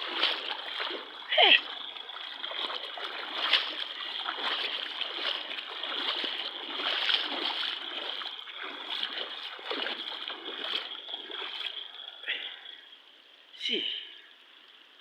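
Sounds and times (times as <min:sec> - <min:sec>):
water rushing along a street: 0:00.0 - 0:12.3.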